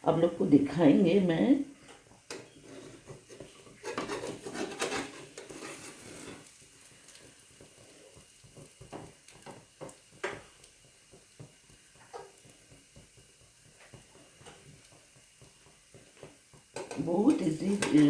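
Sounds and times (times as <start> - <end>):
food sizzling in oiled pan: 0.0 - 18.0.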